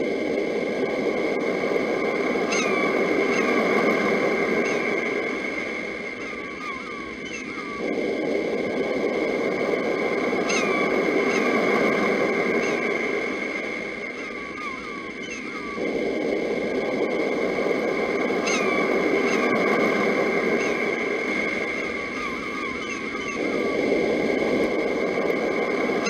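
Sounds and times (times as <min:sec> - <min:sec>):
sea surf rushing: 0:00.5 - 0:26.0
birds chirping: 0:02.0 - 0:08.1, 0:09.9 - 0:26.0.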